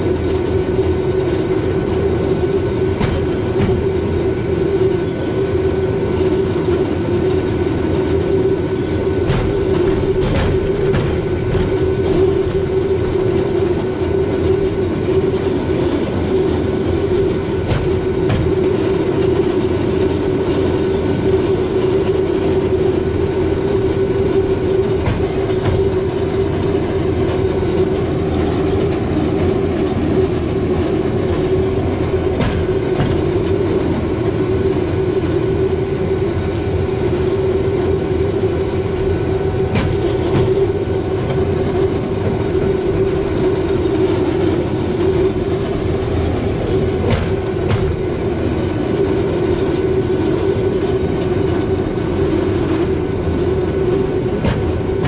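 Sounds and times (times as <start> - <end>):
steel wheels rumbling on track: 0.0 - 55.0
wheels clicking over rail joints: 2.1 - 4.3, 9.0 - 34.4, 38.4 - 55.0.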